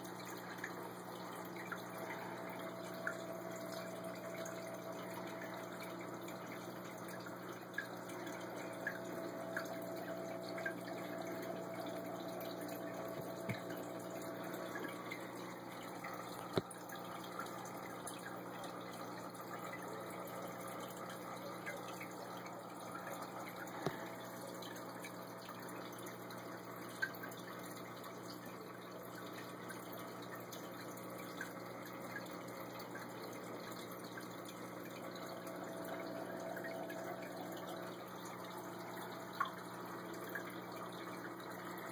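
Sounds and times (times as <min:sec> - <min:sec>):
low electrical hum: 0:00.0 - 0:41.9
small clicks and drips: 0:00.0 - 0:41.9
water trickling: 0:00.0 - 0:41.9.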